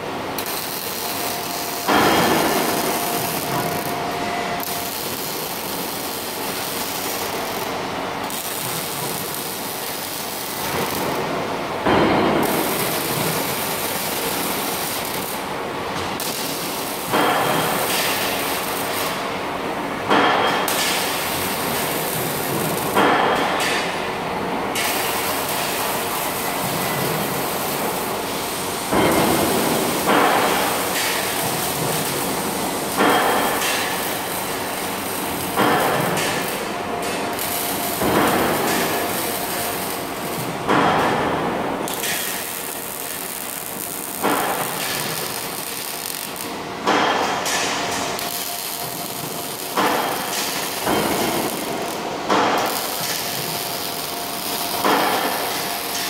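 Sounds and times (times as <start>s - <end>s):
welding arc crackling: 0.1s - 19.3s, 20.5s - 23.7s, 24.7s - 56.0s.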